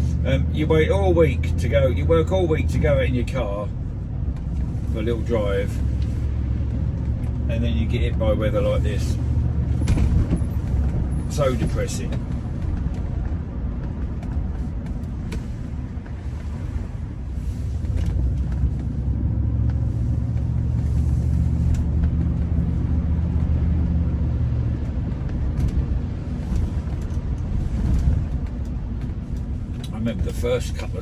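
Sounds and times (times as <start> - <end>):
car engine rumble: 0.0 - 31.0
road noise on wet road: 0.0 - 31.0.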